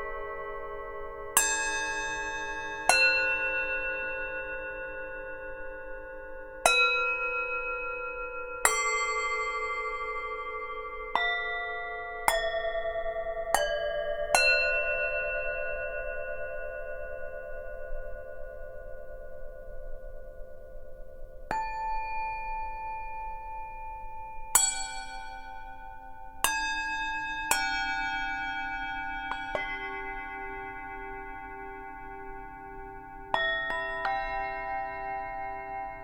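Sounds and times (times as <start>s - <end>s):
singing bowls ringing: 0.0s - 19.9s, 20.9s - 36.0s.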